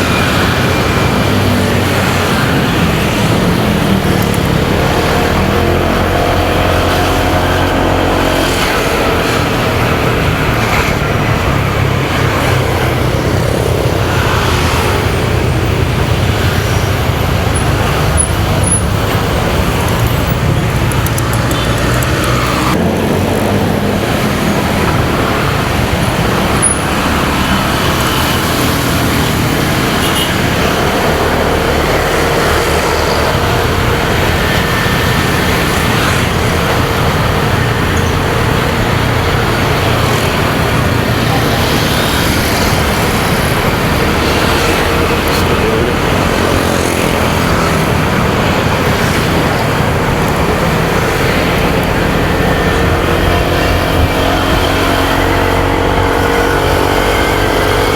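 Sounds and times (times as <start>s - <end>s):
motorcycle engine running: 0.0s - 57.9s
road traffic: 0.0s - 57.9s
wind noise: 0.0s - 57.9s.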